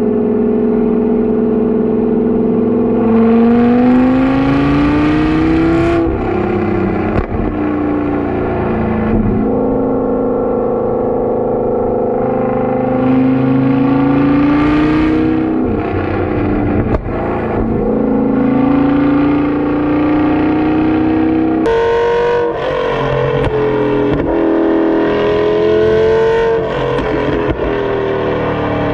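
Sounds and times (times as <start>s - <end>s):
car engine accelerating: 0.0s - 28.9s.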